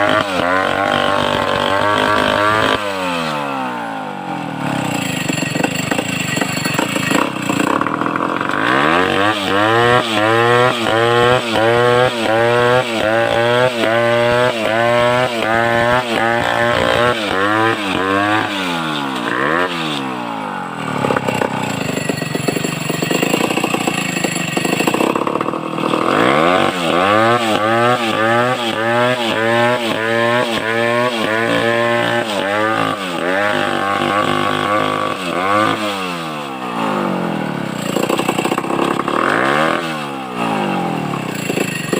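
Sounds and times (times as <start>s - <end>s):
chainsaw engine revving: 0.0s - 41.9s.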